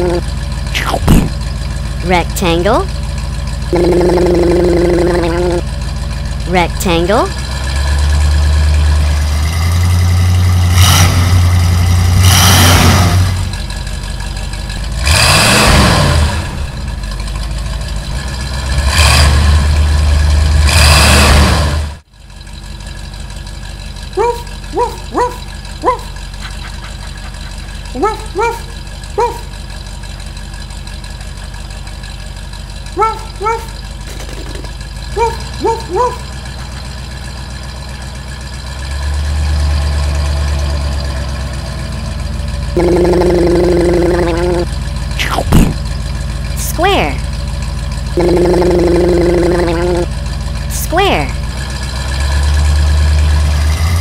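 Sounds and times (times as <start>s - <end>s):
cartoon truck engine revving: 0.0s - 54.0s
engine idling: 0.0s - 54.0s.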